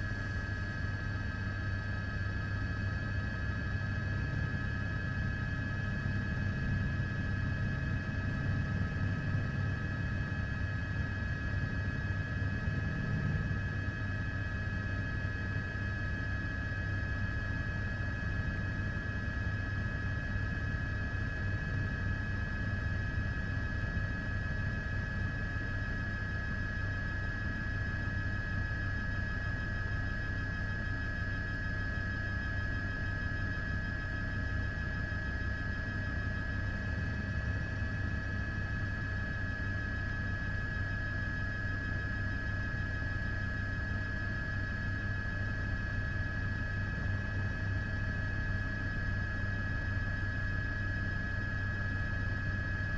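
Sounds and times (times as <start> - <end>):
aircraft rumble and whine: 0.0 - 52.9.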